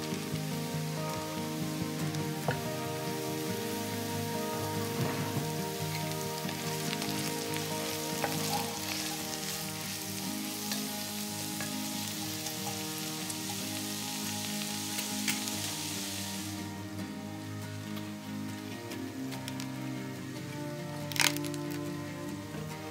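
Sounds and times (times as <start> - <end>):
vegetables sizzling in a pot: 0.0 - 18.0, 19.1 - 22.9
background music: 0.0 - 22.9.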